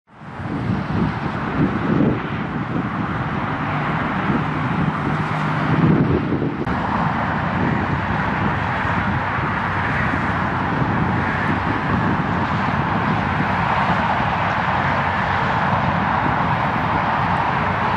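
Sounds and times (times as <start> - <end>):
distant diesel locomotive drone: 0.1 - 17.9
wind buffeting microphone: 0.1 - 17.9.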